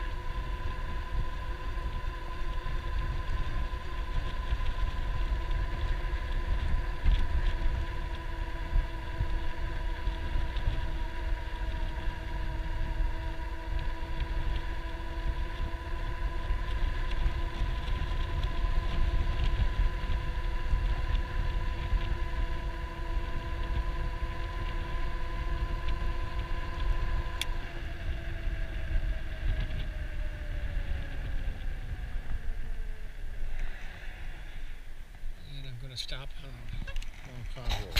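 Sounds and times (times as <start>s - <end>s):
electric motor whining: 0.0s - 35.4s
wind rumble on microphone: 0.0s - 37.9s.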